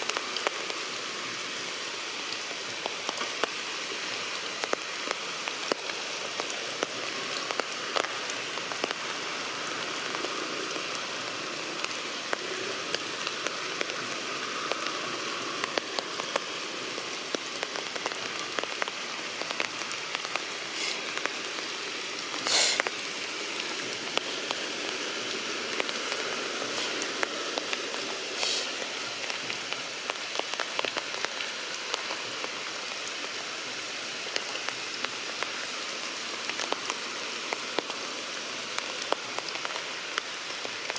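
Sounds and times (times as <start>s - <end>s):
heavy rain pattering on leaves: 0.0s - 40.9s.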